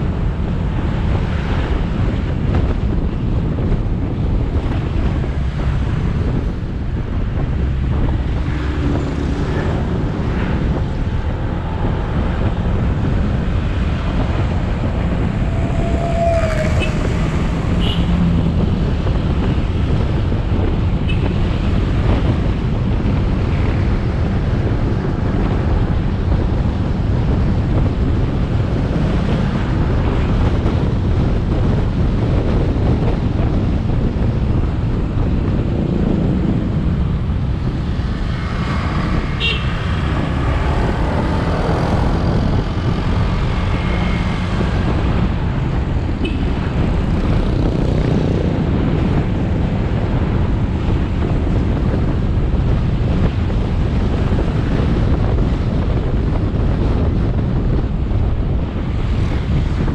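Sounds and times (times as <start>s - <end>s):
motorbike engine drone: 0.0s - 59.9s
road noise: 0.0s - 59.9s
traffic noise: 0.0s - 59.9s
wind rush on microphone: 0.0s - 59.9s.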